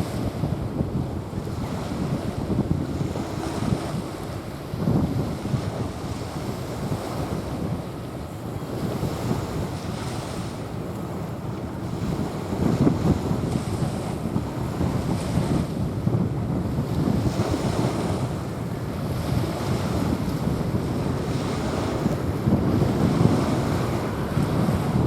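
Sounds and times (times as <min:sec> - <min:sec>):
small waves washing onto beach: 0:00.0 - 0:25.0
wind buffeting microphone: 0:00.0 - 0:25.0.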